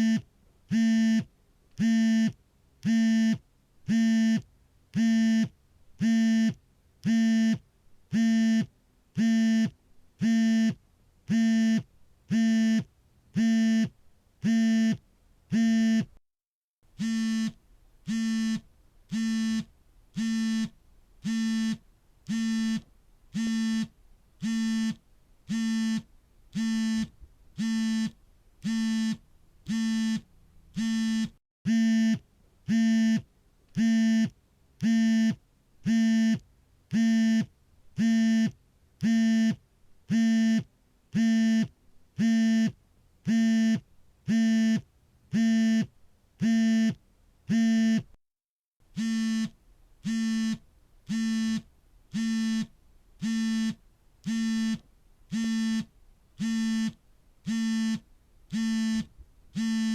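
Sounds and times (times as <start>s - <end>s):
mobile phone vibrating: 0.0s - 16.2s, 17.0s - 48.1s, 48.9s - 59.9s.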